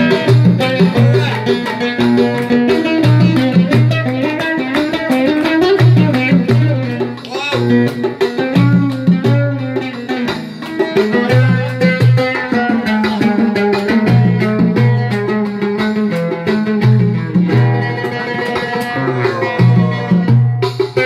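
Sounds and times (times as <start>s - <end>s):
plucked string instrument: 0.0s - 21.0s
steady percussion beat: 0.0s - 21.0s.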